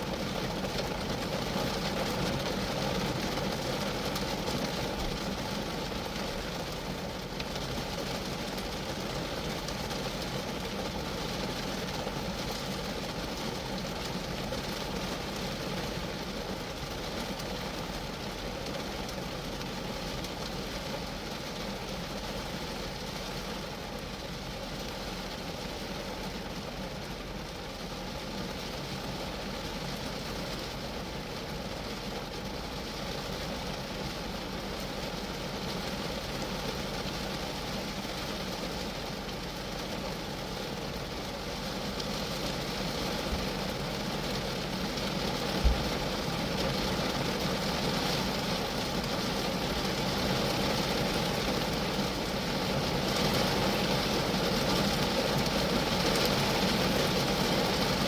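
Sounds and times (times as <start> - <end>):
rain pattering on a car: 0.0 - 58.0.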